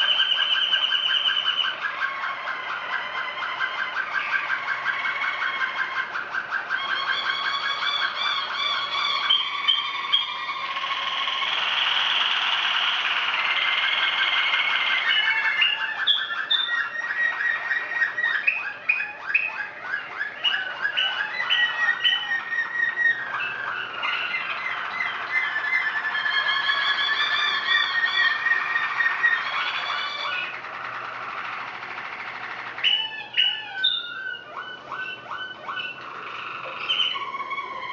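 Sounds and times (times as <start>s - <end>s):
canaries singing trills: 0.0s - 37.9s.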